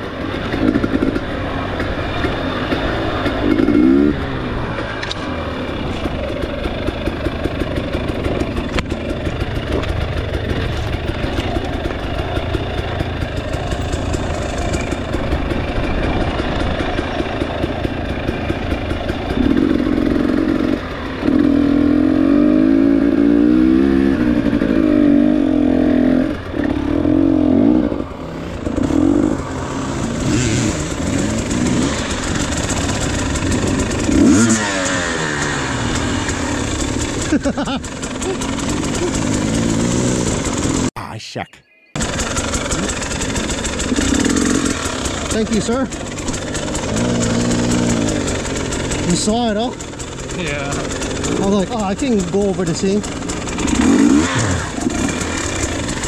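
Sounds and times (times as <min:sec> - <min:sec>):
dirt bike engine revving: 0:00.0 - 0:40.9, 0:42.0 - 0:56.0.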